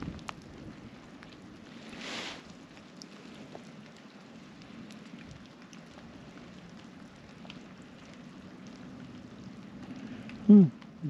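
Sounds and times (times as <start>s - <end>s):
raindrops ticking: 0.0s - 11.0s
soft hiss of rain: 0.0s - 11.0s.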